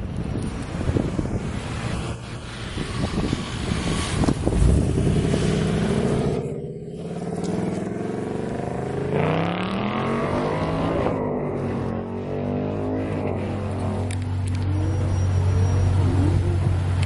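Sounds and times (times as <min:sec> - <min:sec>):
car engine accelerating: 0:02.5 - 0:17.0.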